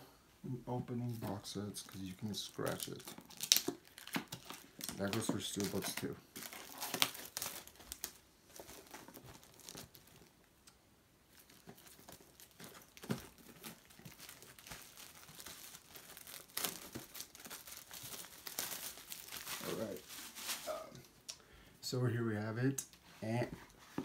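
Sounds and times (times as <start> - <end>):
plastic wrap crinkling and tearing: 1.0 - 10.5, 11.3 - 21.1.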